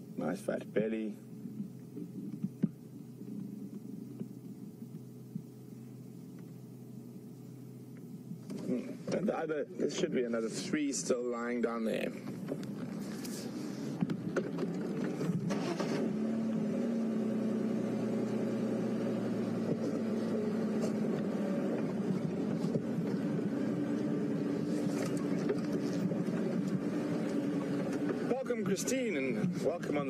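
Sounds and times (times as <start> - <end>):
vehicle engine running: 1.0 - 30.0.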